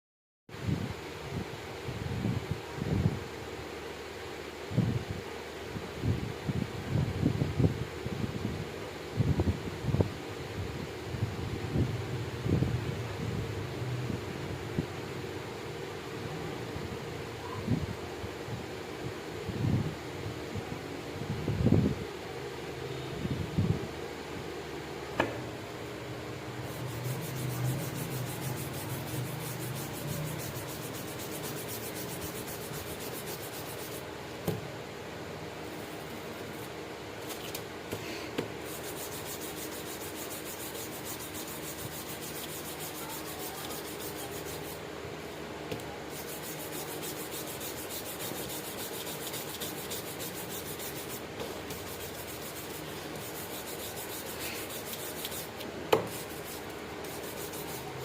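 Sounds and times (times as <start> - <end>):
faint steady hum: 0.5 - 58.0.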